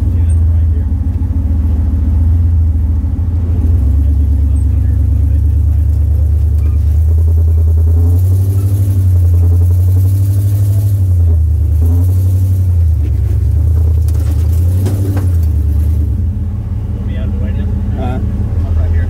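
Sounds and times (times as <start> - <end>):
vehicle engine working under load: 0.0 - 19.0.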